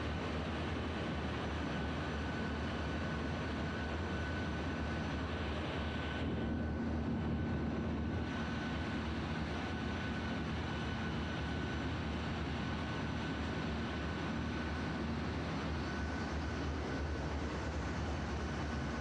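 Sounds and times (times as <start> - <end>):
engine room machinery drone: 0.0 - 19.0.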